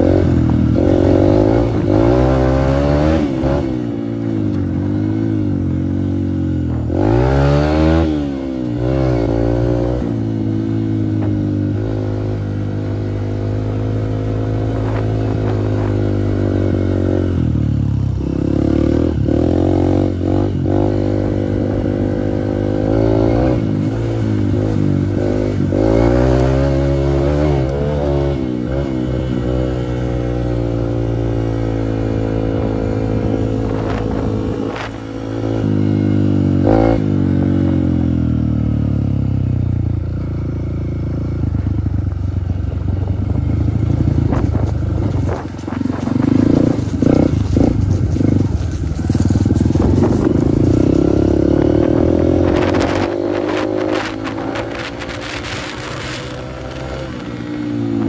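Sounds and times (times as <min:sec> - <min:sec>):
dirt bike engine revving: 0:00.0 - 0:39.2, 0:43.2 - 0:58.0.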